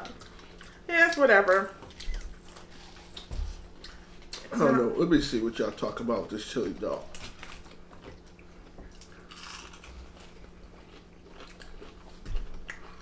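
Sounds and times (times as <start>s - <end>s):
people chewing food: 0.0s - 0.9s, 1.6s - 13.0s.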